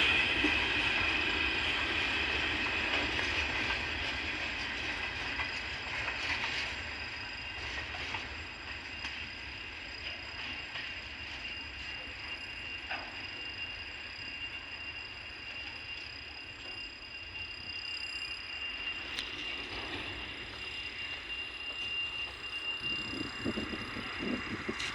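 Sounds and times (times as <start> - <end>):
freight train rumble: 0.0 - 24.9.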